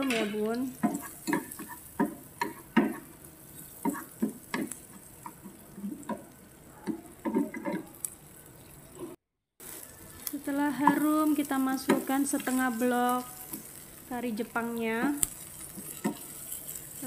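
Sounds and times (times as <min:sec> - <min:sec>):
spatula scraping frying pan: 0:00.0 - 0:14.2, 0:15.0 - 0:17.0
faint sizzle: 0:00.0 - 0:17.0.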